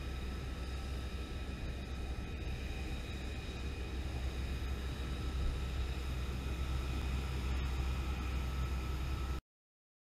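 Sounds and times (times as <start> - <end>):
jet engine rumbling: 0.0 - 9.4
jet engine whine: 0.0 - 9.4.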